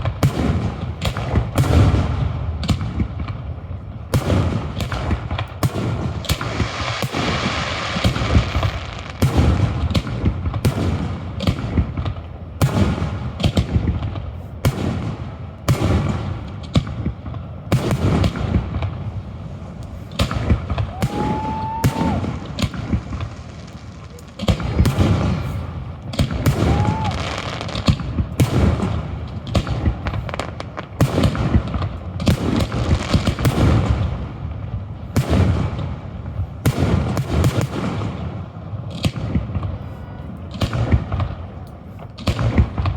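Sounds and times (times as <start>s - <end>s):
fireworks booming and cracking: 0.0s - 42.9s.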